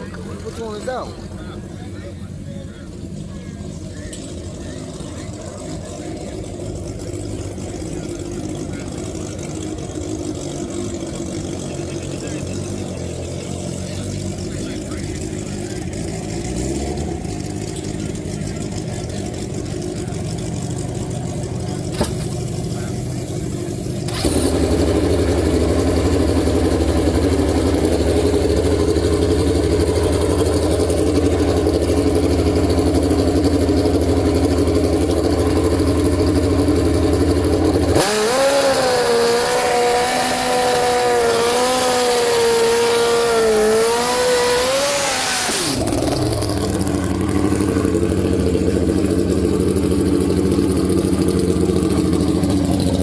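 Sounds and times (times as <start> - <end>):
motorcycle engine revving: 0.0 - 53.0
motorcycle engines running: 0.0 - 53.0.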